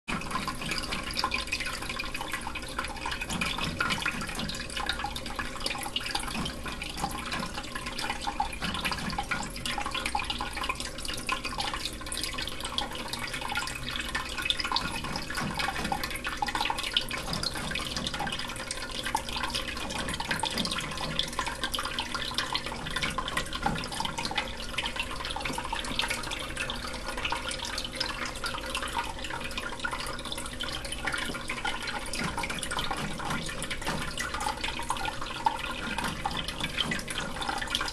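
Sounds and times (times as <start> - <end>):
water trickling and splashing: 0.0 - 37.9.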